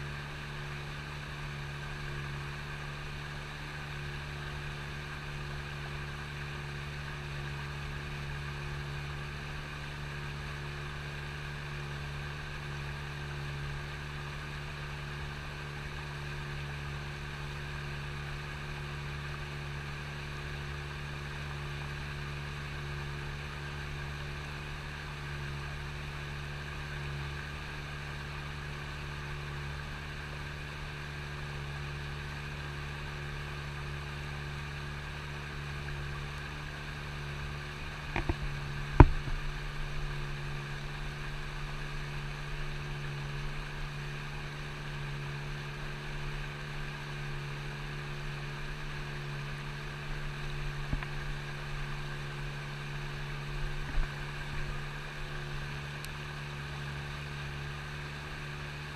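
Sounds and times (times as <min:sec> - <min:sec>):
boat motor humming: 0:00.0 - 0:58.9.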